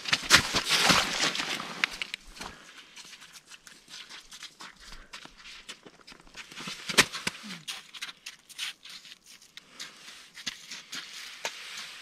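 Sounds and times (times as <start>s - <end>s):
crunching and scraping of snow: 0.0s - 12.0s.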